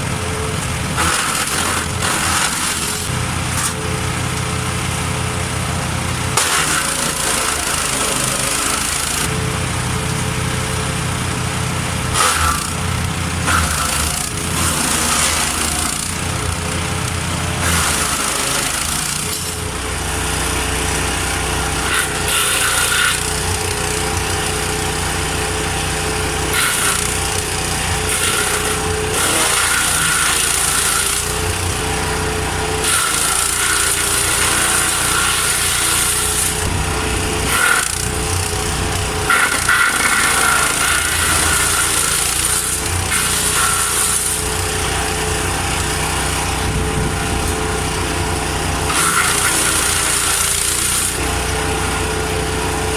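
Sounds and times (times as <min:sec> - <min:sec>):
wood chipper engine running: 0:00.0 - 0:52.9.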